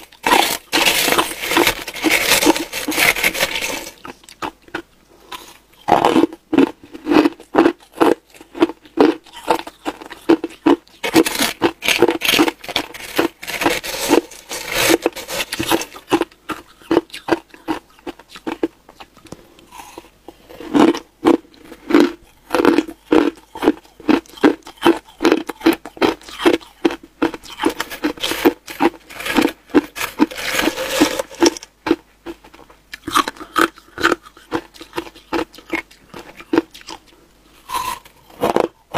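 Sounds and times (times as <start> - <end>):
chewing crushed ice: 0.0 - 38.9.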